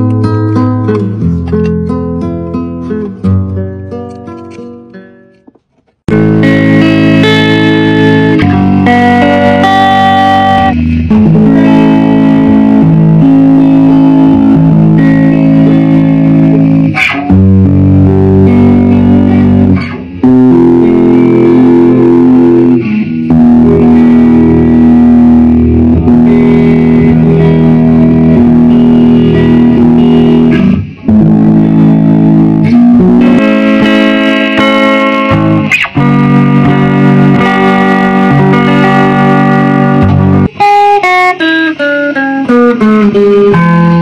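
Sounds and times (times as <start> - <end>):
electric guitar playing: 0.0 - 44.0.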